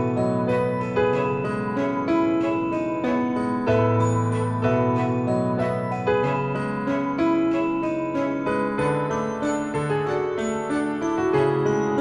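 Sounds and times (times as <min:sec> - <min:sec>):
instrumental music with chimes: 0:00.0 - 0:12.0.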